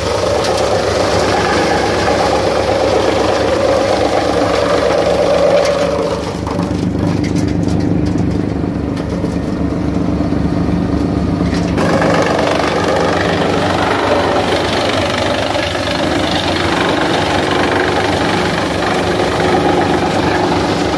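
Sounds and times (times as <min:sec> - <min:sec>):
tractor engine running: 0:00.0 - 0:20.9
wood chipper shredding branches: 0:00.0 - 0:20.9.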